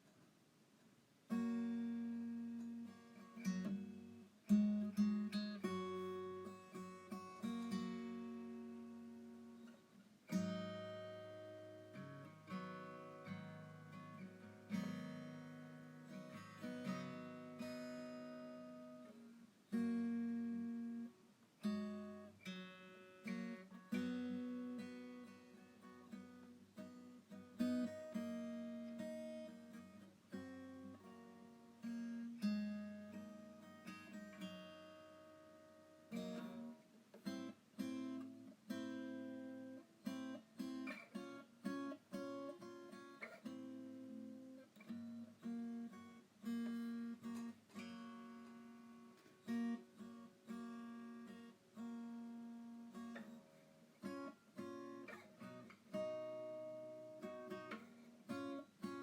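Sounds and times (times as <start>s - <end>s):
acoustic guitar strumming chords: 1.3s - 59.0s.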